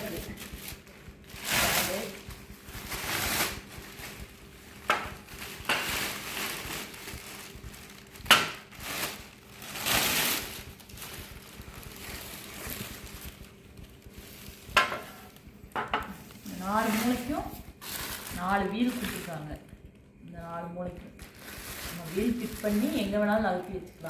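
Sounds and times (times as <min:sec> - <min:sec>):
packaging rustling and crinkling: 0:00.0 - 0:19.9, 0:20.9 - 0:24.0.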